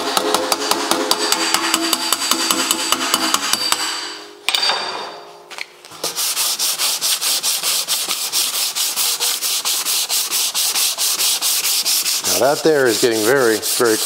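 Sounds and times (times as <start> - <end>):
sanding block on steel: 0.5 - 4.0, 6.0 - 14.0.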